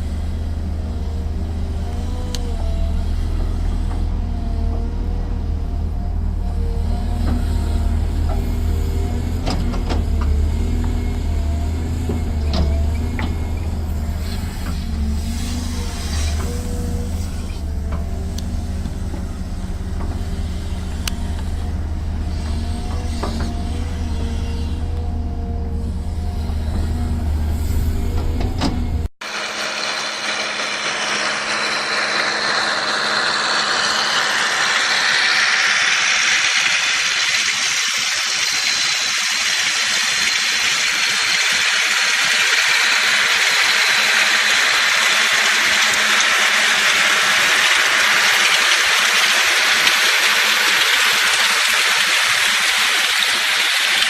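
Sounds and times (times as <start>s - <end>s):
heavy machine engine rumbling: 0.0s - 54.0s.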